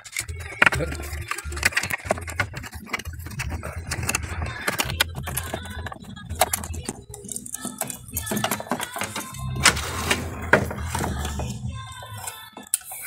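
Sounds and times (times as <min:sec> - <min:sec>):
plastic parts clicking and rattling: 0:00.0 - 0:13.0.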